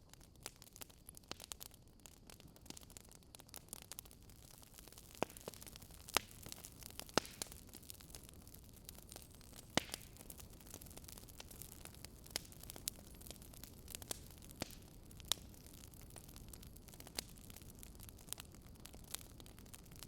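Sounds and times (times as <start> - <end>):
burning logs crackling: 0.0 - 20.0.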